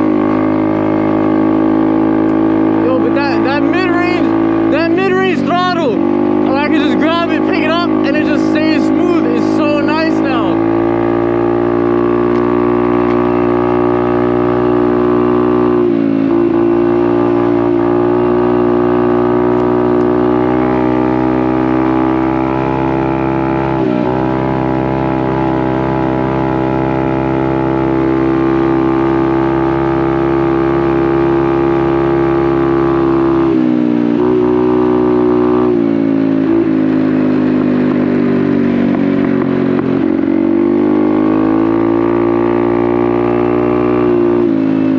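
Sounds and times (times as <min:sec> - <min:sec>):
small motorcycle engine running: 0:00.0 - 0:44.9.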